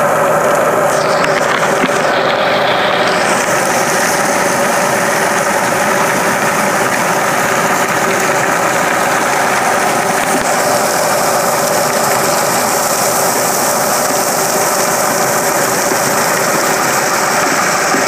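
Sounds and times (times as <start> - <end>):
diesel engine running: 0.0 - 18.0
high-pressure water jet spraying: 0.0 - 18.0.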